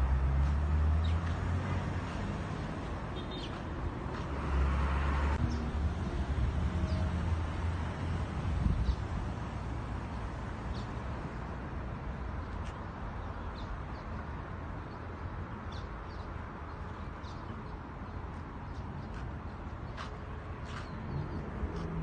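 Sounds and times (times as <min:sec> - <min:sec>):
road traffic hum: 0:00.0 - 0:22.0.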